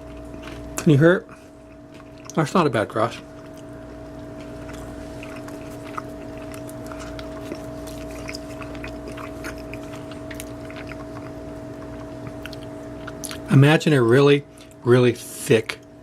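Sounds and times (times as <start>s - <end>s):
chewing crunchy pastry: 0.0s - 16.0s
steady low hum: 0.0s - 16.0s.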